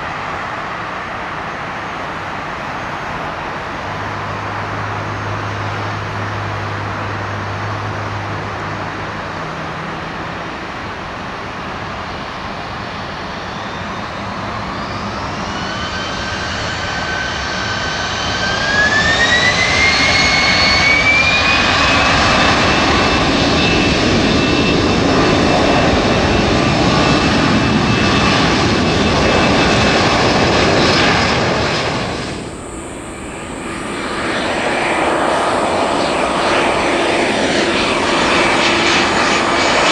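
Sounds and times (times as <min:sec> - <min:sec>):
jet airliner approaching: 0:00.0 - 0:39.9
jet engines spooling up: 0:00.0 - 0:39.9.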